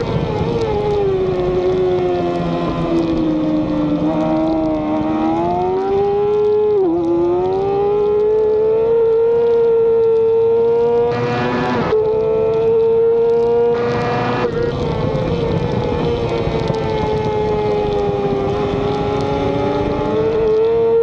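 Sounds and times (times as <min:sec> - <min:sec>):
wind rush on microphone: 0:00.0 - 0:21.0
race motorcycle engine revving: 0:00.4 - 0:21.0.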